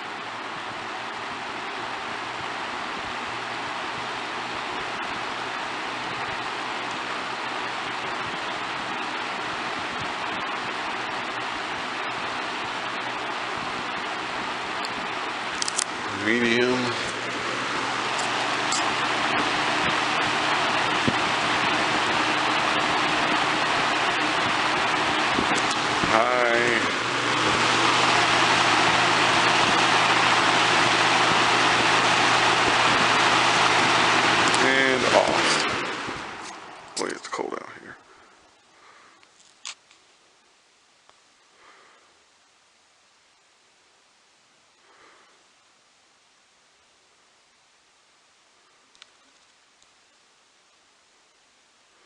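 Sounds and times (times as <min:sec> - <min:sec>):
box fan running: 0:00.0 - 0:52.0.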